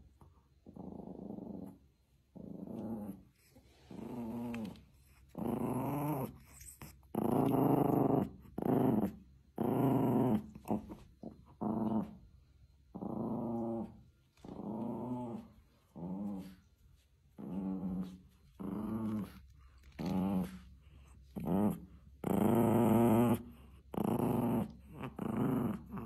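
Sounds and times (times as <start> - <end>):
dogs growling in play: 0.0 - 26.0.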